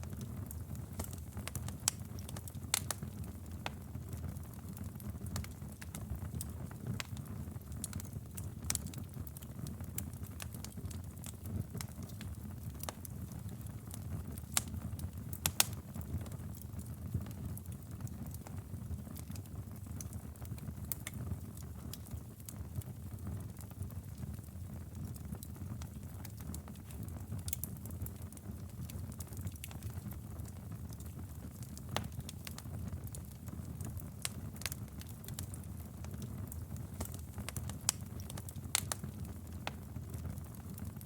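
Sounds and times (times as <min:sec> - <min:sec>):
fire crackling and popping: 0:00.0 - 0:41.0
wood fire burning: 0:00.0 - 0:41.0.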